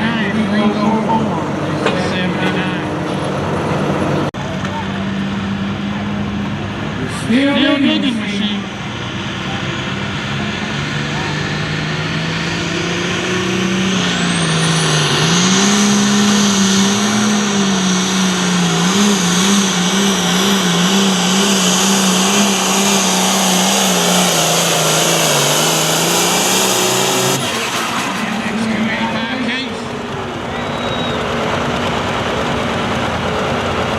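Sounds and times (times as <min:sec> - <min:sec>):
tractor diesel engine running hard: 0:00.0 - 0:33.9.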